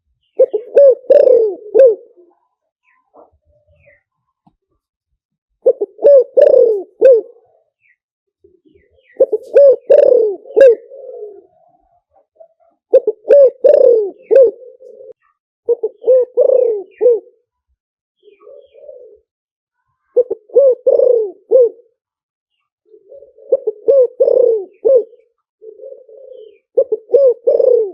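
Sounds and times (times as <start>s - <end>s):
dove cooing: 0.3s - 4.0s, 5.6s - 7.9s, 8.5s - 17.5s, 18.2s - 22.0s, 22.9s - 27.9s.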